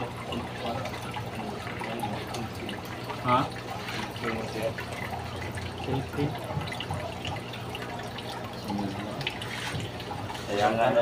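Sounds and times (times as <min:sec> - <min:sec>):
aquarium water bubbling: 0:00.0 - 0:11.0.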